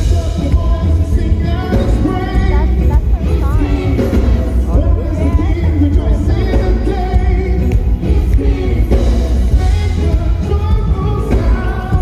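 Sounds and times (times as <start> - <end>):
singing over heavy bass music: 0.0 - 12.0.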